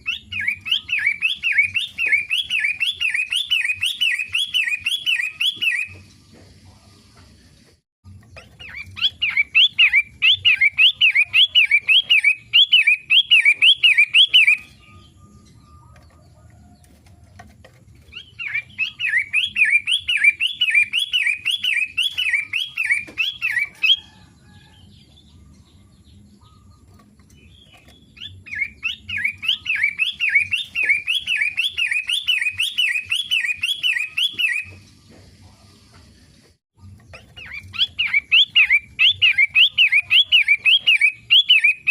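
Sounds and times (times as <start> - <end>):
shrike singing: 0.0 - 6.4, 8.1 - 17.2, 18.0 - 35.1, 36.8 - 41.9.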